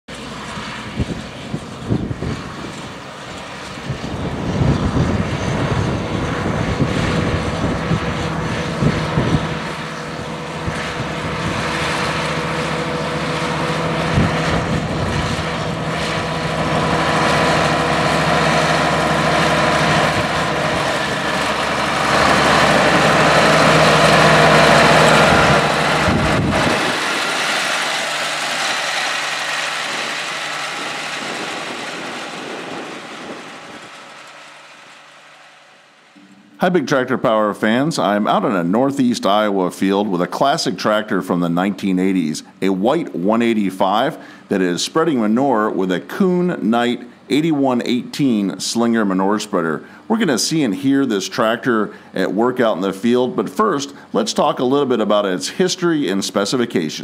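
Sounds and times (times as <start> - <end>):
tractor diesel engine running: 0.1 - 56.8.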